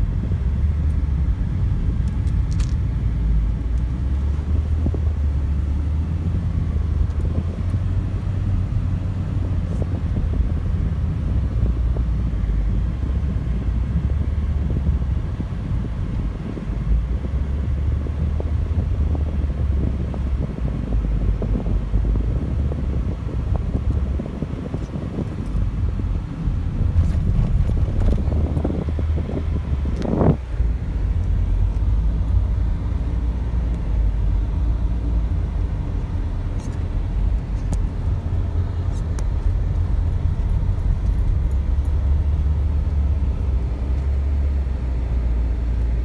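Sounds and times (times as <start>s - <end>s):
car engine and tyres rumbling: 0.0s - 46.0s.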